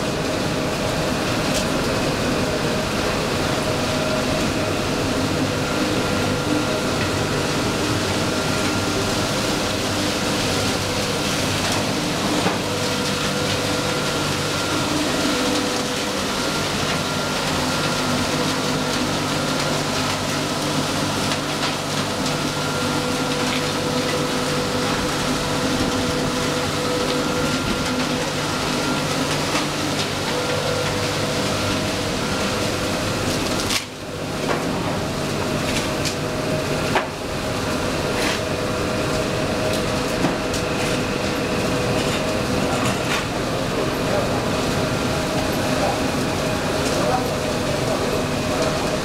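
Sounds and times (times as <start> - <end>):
fans and motors humming: 0.0 - 49.0.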